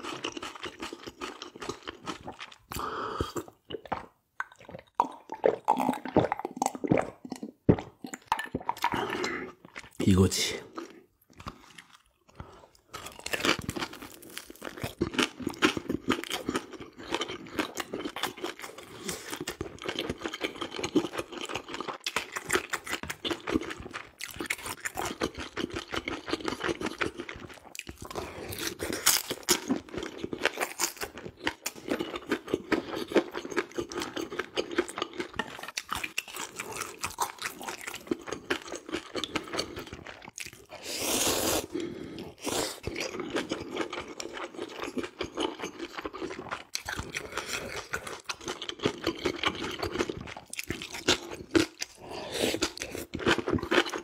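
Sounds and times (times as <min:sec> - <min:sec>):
chewing crispy dumpling: 0:00.0 - 0:54.0.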